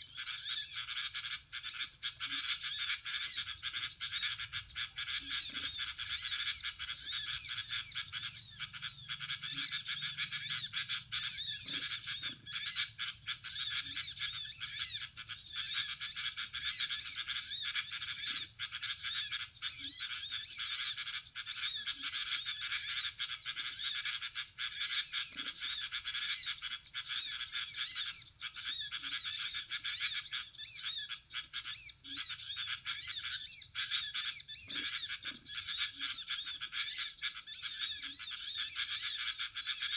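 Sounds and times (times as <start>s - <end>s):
small birds chirping over loudspeaker: 0.0s - 39.9s.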